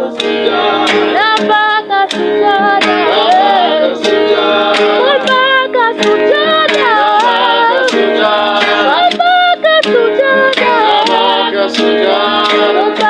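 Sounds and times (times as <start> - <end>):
guitar chords: 0.0 - 13.0
person singing: 0.0 - 13.0
steady beat: 0.0 - 13.0.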